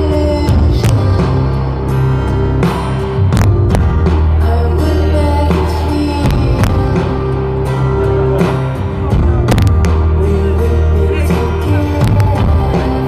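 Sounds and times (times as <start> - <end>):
keyboards and synthesizers: 0.0 - 13.0.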